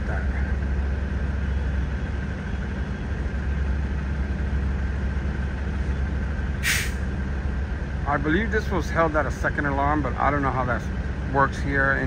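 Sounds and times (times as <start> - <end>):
heavy engines idling: 0.0 - 12.0.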